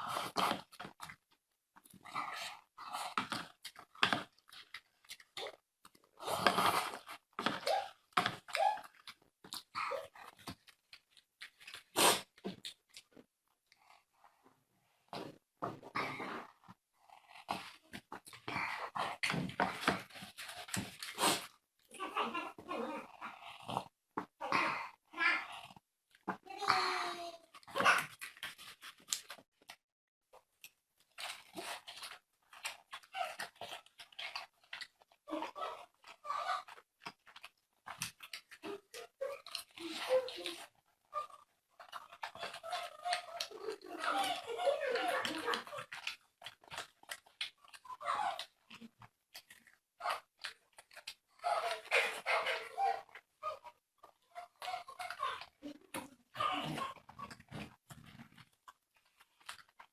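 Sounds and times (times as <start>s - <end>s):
wet chewing and slurping: 0.0s - 29.8s, 30.4s - 59.9s.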